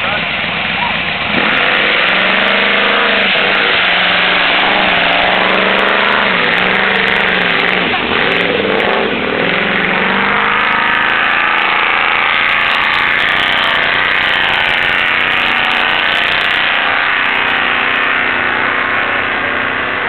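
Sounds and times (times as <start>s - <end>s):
race vehicle engines revving: 0.0s - 20.0s.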